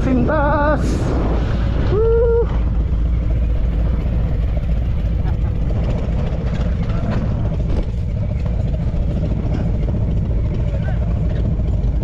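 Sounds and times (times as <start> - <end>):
motorcycle engine running: 0.0 - 12.0
wind rush over microphone: 0.0 - 12.0.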